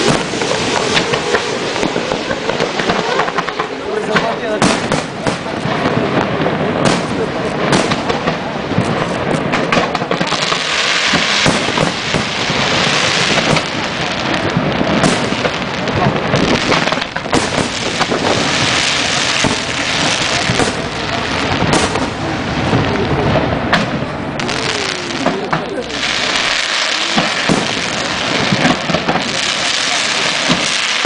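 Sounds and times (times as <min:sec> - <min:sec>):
dense fireworks hiss: 0:00.0 - 0:31.0
fireworks bursting with sharp bangs: 0:00.0 - 0:31.0.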